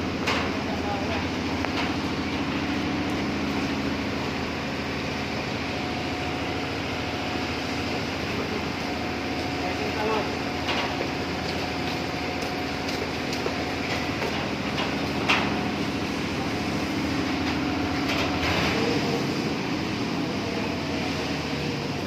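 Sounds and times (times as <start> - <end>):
construction machinery running: 0.0 - 22.0.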